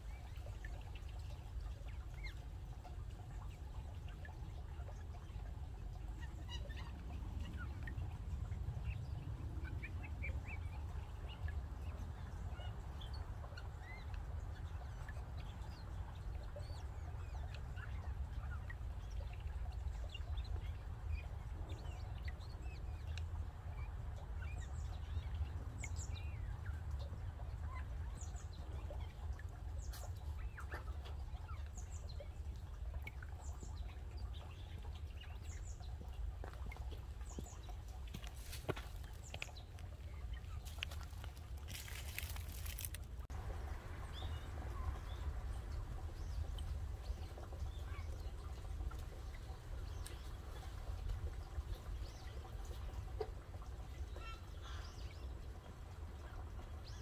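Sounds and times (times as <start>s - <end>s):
steady low rumble: 0.0s - 54.0s
wild birds chirping: 0.0s - 57.0s.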